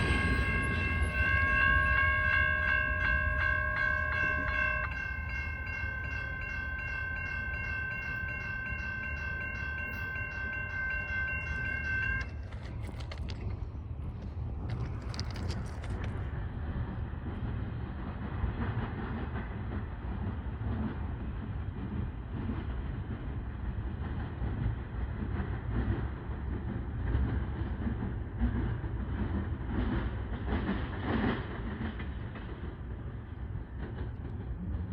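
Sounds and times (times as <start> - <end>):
freight train rumbling past: 0.0 - 34.9
steel wheels clattering on rails: 0.0 - 34.9.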